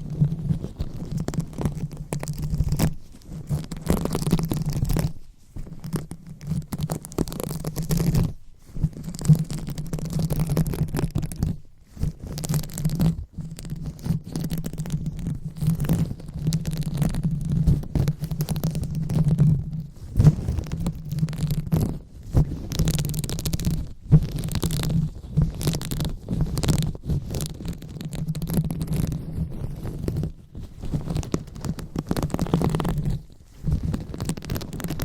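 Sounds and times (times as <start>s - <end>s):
hands rubbing on microphone: 0.0s - 35.0s.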